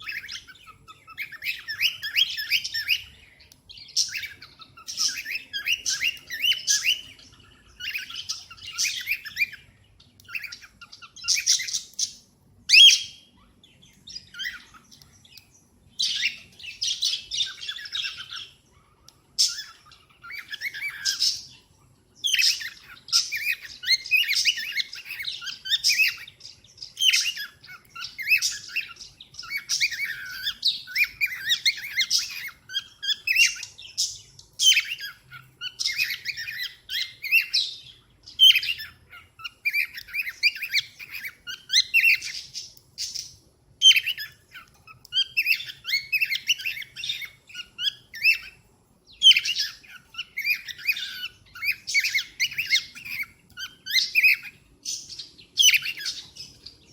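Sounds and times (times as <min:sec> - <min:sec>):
cockatiel chirping: 0:00.0 - 0:56.9.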